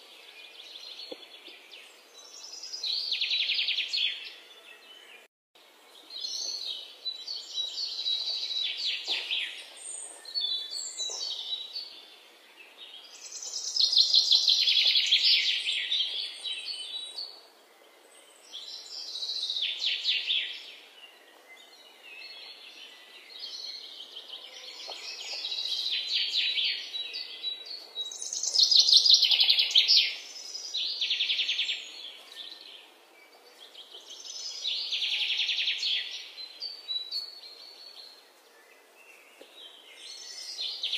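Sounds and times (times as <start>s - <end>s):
small birds chirping trills: 0.0s - 40.9s.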